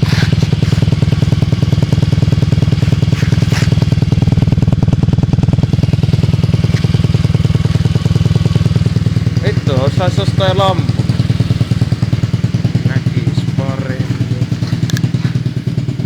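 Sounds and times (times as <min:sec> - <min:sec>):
scooter engine running steadily: 0:00.0 - 0:16.0.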